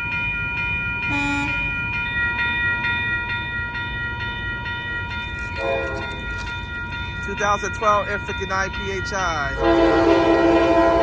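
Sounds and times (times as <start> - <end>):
crossing warning bell ringing: 0.0 - 11.0
diesel train approaching rumble: 0.0 - 11.0.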